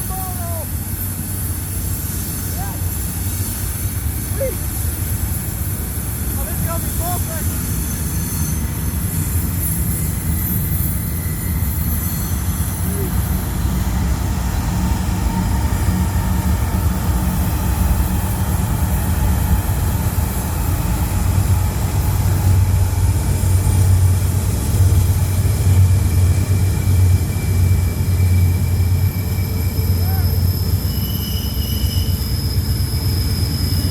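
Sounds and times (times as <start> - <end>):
freight train rumbling past: 0.0 - 33.9.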